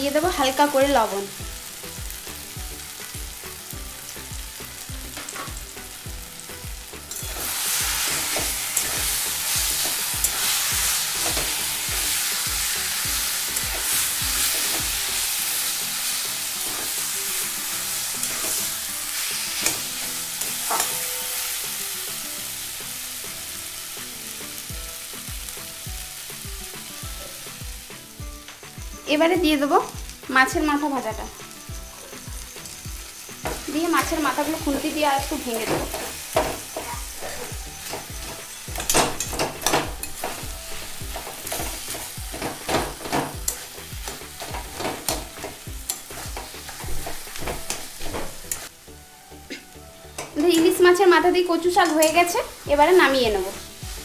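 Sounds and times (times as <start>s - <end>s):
leaves sizzling in oil: 0.0s - 54.0s.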